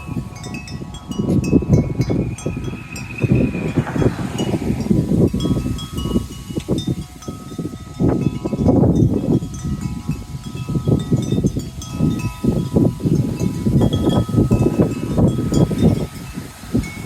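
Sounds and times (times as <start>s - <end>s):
wind buffeting microphone: 0.0s - 17.0s
wind chimes ringing: 0.0s - 17.0s.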